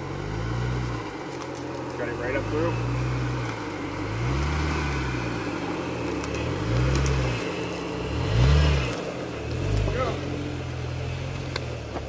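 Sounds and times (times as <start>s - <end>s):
engine revving in pulses: 2.0s - 11.8s.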